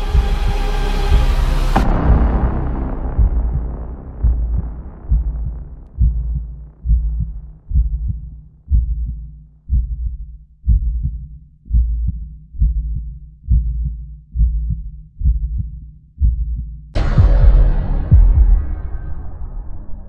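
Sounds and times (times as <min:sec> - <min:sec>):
deep heartbeat thumps: 0:00.0 - 0:20.0.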